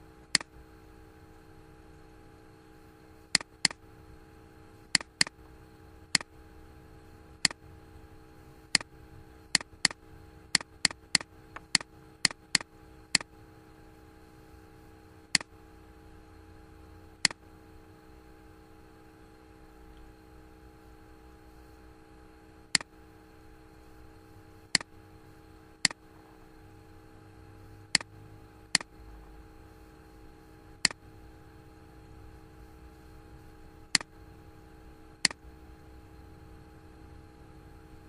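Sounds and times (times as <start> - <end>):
faint electrical hum: 0.0 - 38.0.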